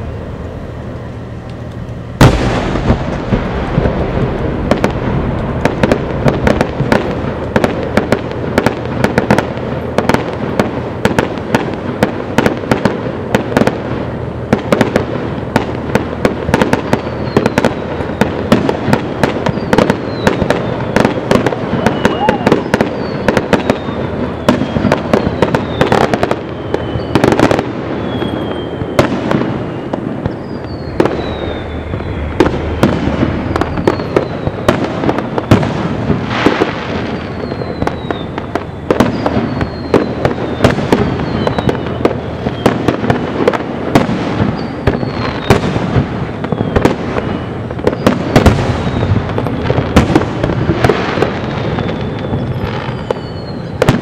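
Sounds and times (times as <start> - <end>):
constant rumble: 0.0 - 54.0
falling firework whistles: 0.0 - 54.0
fireworks bursts and bangs: 0.0 - 54.0.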